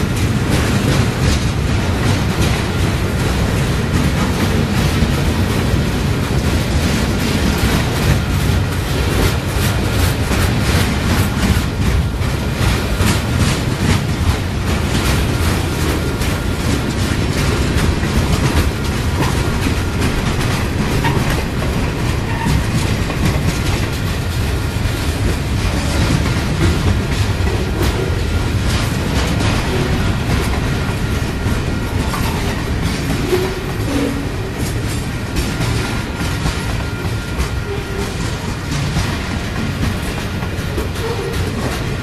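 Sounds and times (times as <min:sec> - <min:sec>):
freight train rumbling past: 0:00.0 - 0:42.0
wheels clicking over rail joints: 0:00.0 - 0:42.0.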